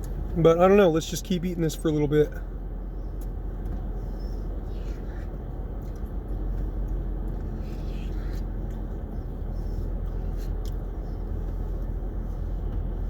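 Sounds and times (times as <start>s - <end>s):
low rumble inside car cabin: 0.0s - 13.0s.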